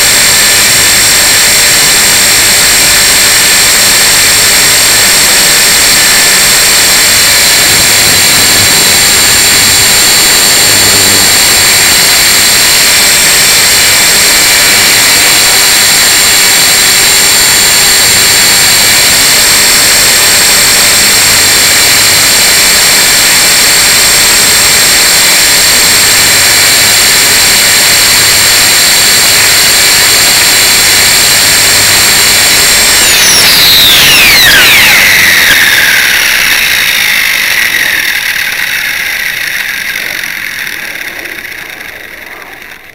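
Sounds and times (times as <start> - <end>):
rc helicopter motor whine: 0.0 - 42.9
rotor rushing noise: 0.0 - 42.9.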